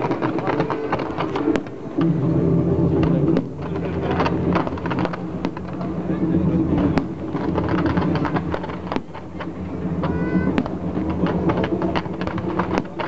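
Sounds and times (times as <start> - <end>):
fireworks bangs and crackles: 0.0 - 13.0
loud firework report: 0.0 - 13.0.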